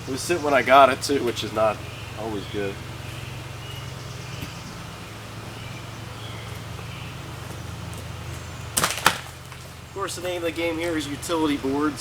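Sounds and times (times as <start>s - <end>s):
sawmill engine idling: 0.0s - 12.0s.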